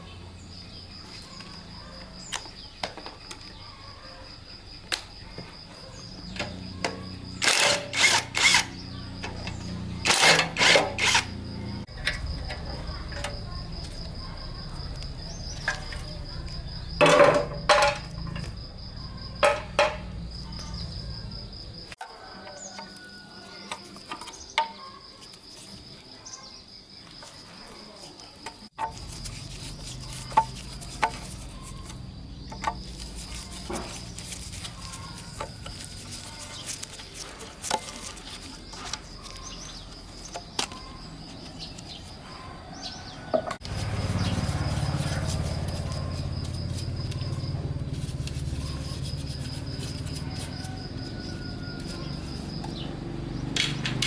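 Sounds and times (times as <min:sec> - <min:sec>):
high insect trill: 0:00.0 - 0:53.9.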